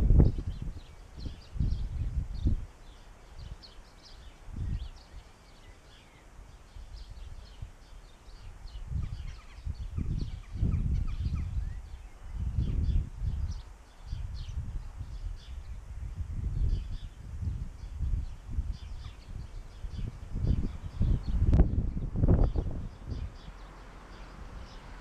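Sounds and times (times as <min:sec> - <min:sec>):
wind buffeting microphone: 0:00.0 - 0:05.3, 0:06.4 - 0:25.0
small birds chirping: 0:00.0 - 0:25.0.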